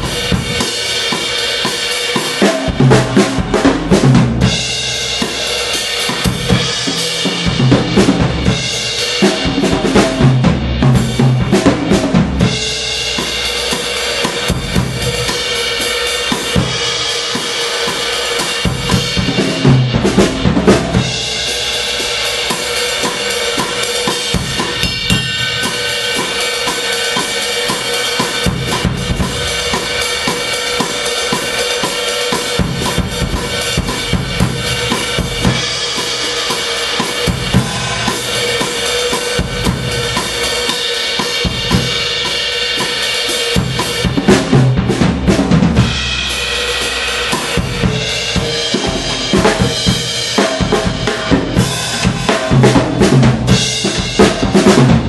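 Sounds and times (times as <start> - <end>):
acoustic drum kit groove: 0.0 - 55.0.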